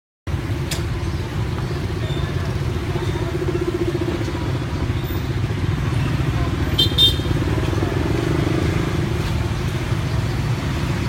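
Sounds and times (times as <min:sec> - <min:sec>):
small engine rumbling: 0:00.3 - 0:11.0.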